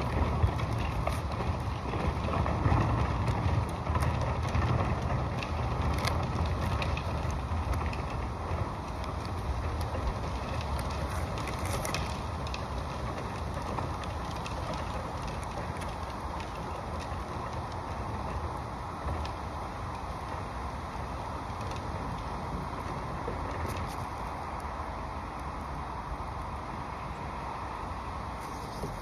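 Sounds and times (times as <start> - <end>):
steady low rumble: 0.0 - 29.0
tape crackling and ticking: 0.0 - 29.0.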